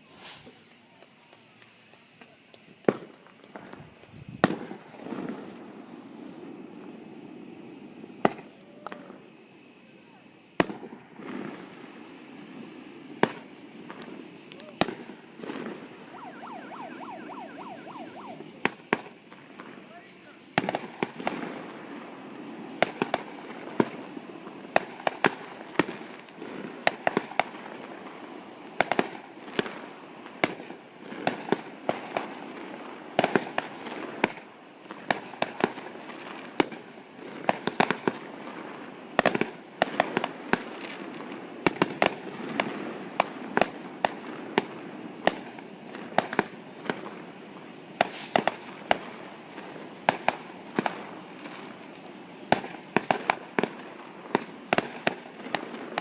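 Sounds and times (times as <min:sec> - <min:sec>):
fireworks exploding: 0:00.0 - 0:56.0
steady high-pitched whine: 0:00.0 - 0:56.0.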